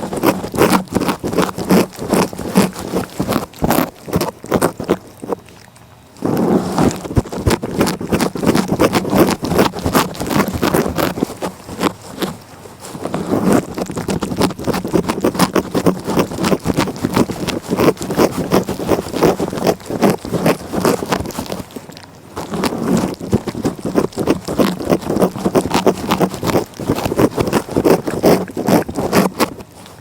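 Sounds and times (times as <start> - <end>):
cat licking: 0.0 - 30.0.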